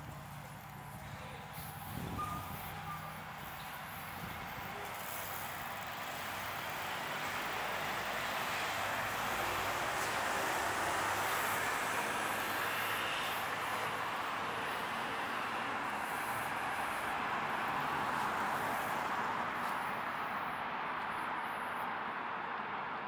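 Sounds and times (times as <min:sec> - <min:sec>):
traffic rushing past: 0:00.0 - 0:23.0.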